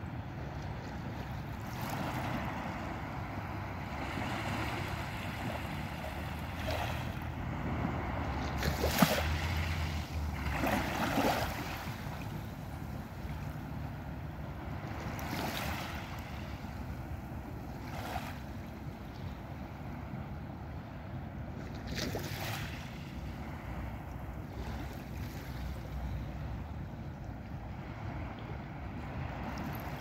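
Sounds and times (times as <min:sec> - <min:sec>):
low steady rumble: 0:00.0 - 0:30.0
small waves lapping on beach: 0:00.0 - 0:30.0.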